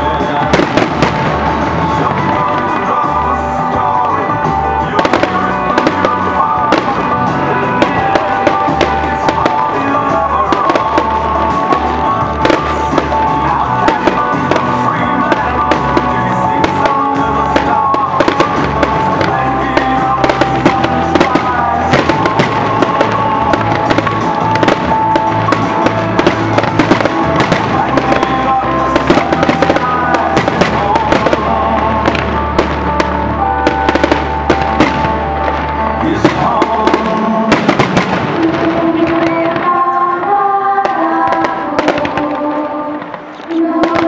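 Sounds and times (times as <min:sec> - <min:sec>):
loud music with bass line: 0:00.0 - 0:39.6
fireworks bursting and crackling: 0:00.0 - 0:44.0.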